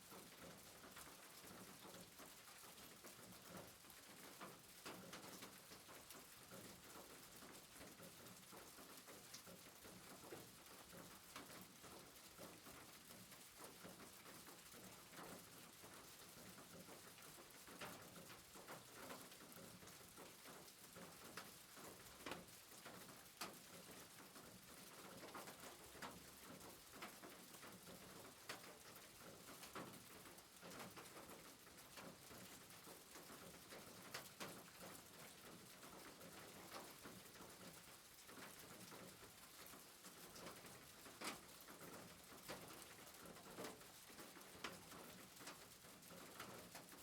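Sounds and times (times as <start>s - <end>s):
soft rain hiss: 0.0s - 47.0s.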